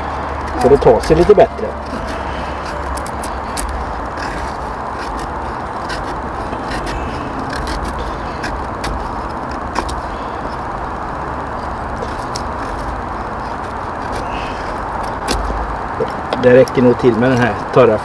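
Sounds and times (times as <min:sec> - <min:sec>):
steady low rumble: 0:00.0 - 0:18.0
knife scraping dry wood: 0:00.2 - 0:10.7, 0:11.6 - 0:16.2.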